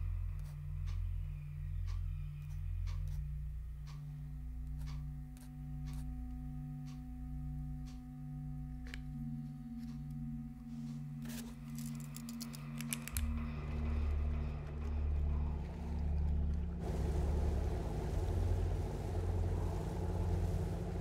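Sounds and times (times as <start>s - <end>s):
low pulsing drone: 0.0s - 21.0s.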